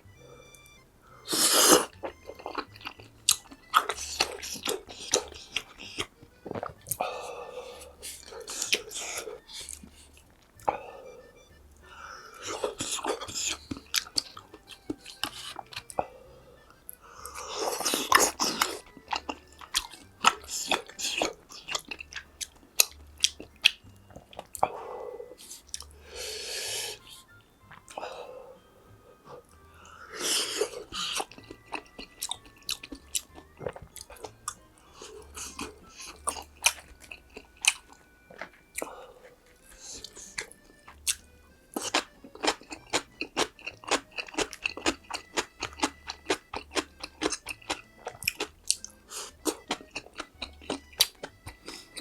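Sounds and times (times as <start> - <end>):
noisy burst of eating: 1.2 - 11.0, 11.8 - 16.2, 17.0 - 27.2, 29.2 - 52.0
wet chewing mouth clicks: 1.3 - 7.0, 7.8 - 11.3, 12.4 - 16.1, 17.2 - 24.7, 25.4 - 28.0, 30.2 - 52.0.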